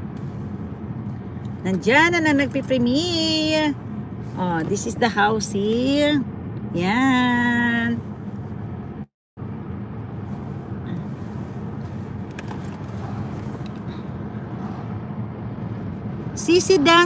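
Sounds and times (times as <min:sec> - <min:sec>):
car road noise rumble: 0:00.0 - 0:17.0.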